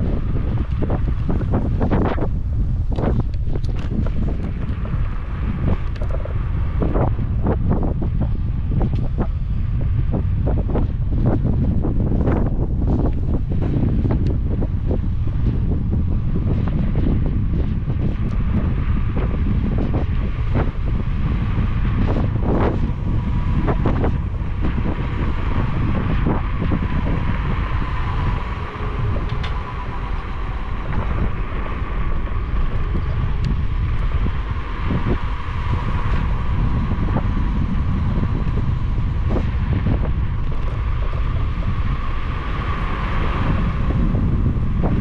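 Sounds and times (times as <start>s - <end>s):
scooter rolling rumble: 0.0s - 45.0s
thin wavering whine: 0.0s - 45.0s
wind buffeting microphone: 0.0s - 45.0s.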